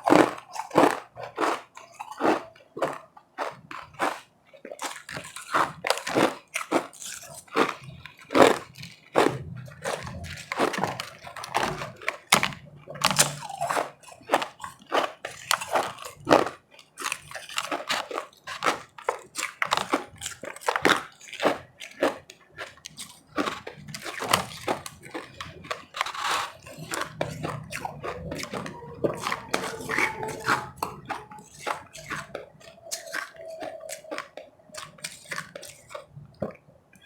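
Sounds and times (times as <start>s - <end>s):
crunching ice: 0.0s - 36.6s.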